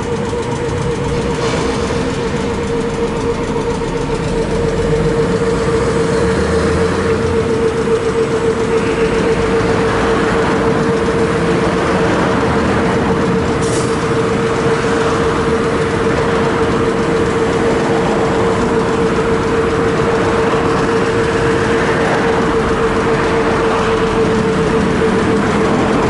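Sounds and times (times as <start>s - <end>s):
streetcar electrical hum: 0.0s - 26.0s
streetcar rumble: 0.0s - 26.0s.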